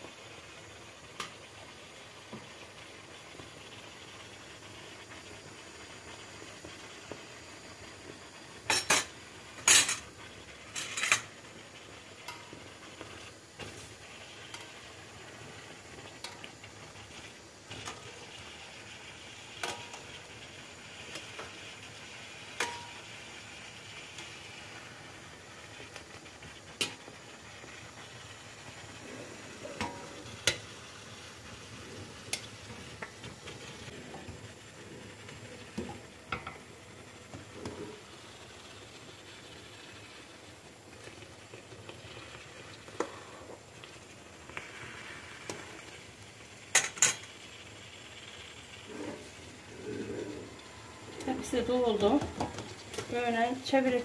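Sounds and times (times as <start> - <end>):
syrup simmering hiss: 0.0 - 54.0.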